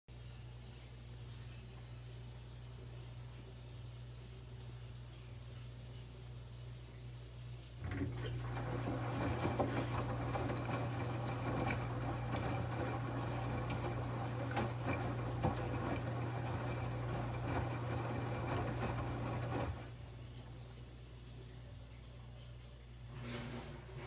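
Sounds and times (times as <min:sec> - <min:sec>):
electrical hum: 0:00.1 - 0:24.0
washing machine whirring: 0:00.1 - 0:24.0.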